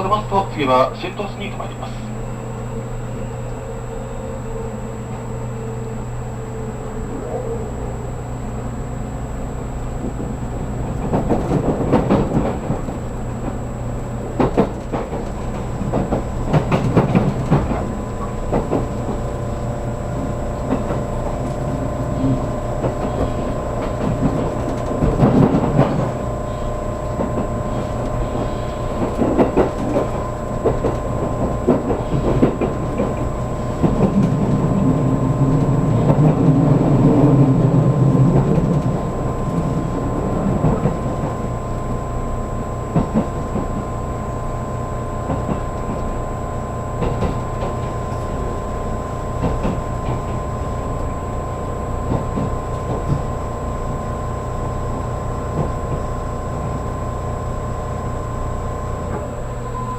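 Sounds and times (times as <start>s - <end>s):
train wheels rumbling on rail: 0.0s - 59.9s
train whining tones: 0.0s - 59.9s
rail joint clicks: 9.7s - 59.9s.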